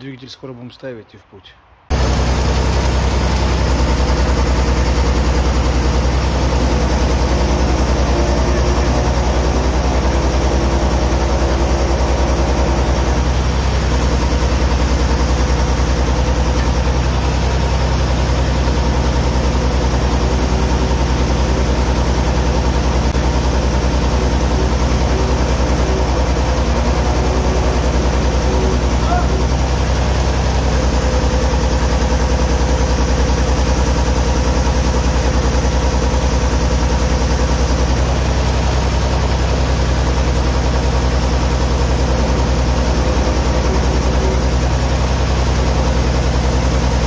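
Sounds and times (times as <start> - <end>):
diesel engine idling: 1.9 - 47.0.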